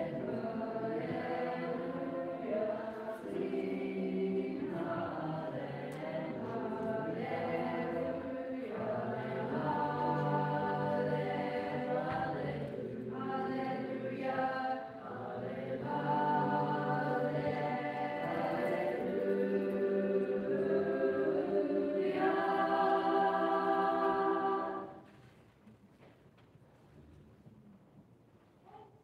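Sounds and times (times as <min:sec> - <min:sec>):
children's choir singing a cappella: 0:00.0 - 0:25.1.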